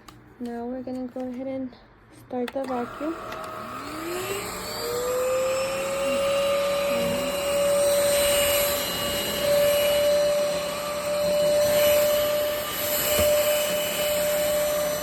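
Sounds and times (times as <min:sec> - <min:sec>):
vacuum motor whining: 0:02.6 - 0:15.0.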